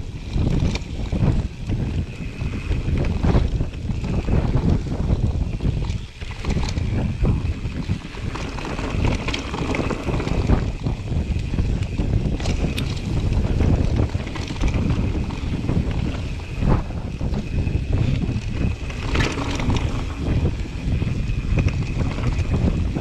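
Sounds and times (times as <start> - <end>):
bike rattles and clicks: 0.0 - 23.0
bike rumbling on rough trail: 0.0 - 23.0
wind buffeting camera: 0.0 - 23.0.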